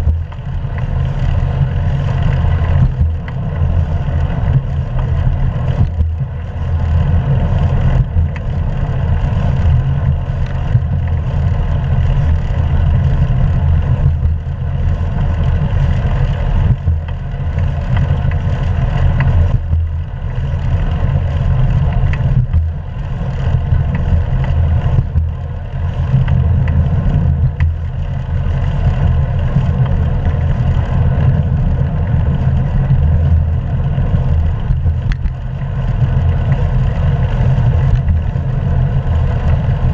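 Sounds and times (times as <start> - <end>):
deep road rumble: 0.0 - 39.9.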